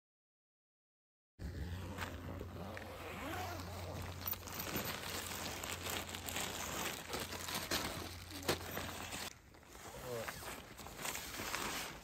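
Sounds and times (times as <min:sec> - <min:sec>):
rustling crinkling: 0:02.2 - 0:12.0.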